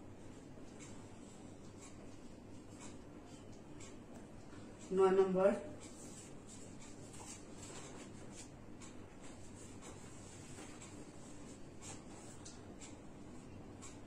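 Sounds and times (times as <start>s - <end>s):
low room hum: 0.0s - 14.0s
marker pen writing on whiteboard: 0.6s - 4.8s, 5.8s - 14.0s.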